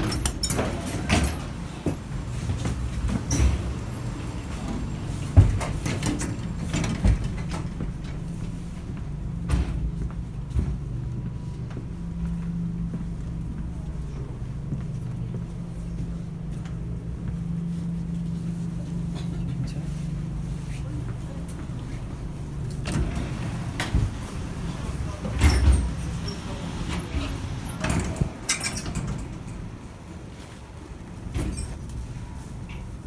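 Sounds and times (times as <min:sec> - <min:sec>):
train carriage hum and rumble: 0:00.0 - 0:33.0.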